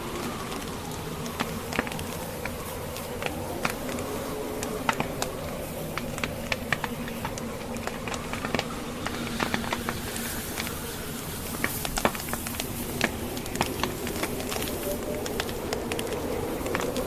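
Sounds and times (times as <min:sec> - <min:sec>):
blizzard wind whooshing: 0:00.0 - 0:17.0
logs crackling and popping: 0:00.0 - 0:17.0.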